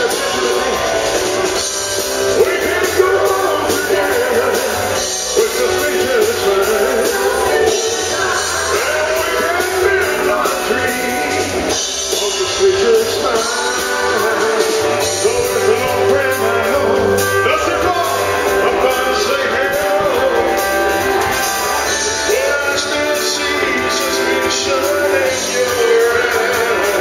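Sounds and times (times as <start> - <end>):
man singing into a microphone: 0.0 - 1.2, 2.2 - 21.0, 21.8 - 27.0
live rock band playing: 0.0 - 27.0.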